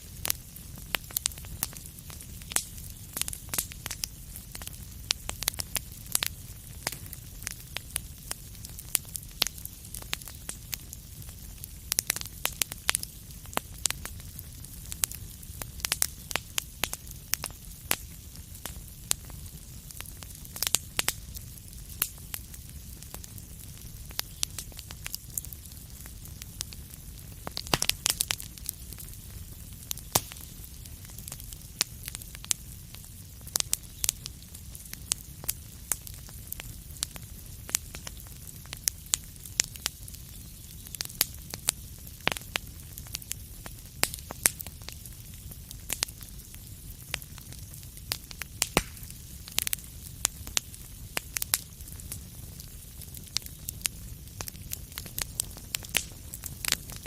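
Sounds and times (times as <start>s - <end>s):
fire crackling and popping: 0.0s - 57.0s
fire rumble and hiss: 0.0s - 57.0s.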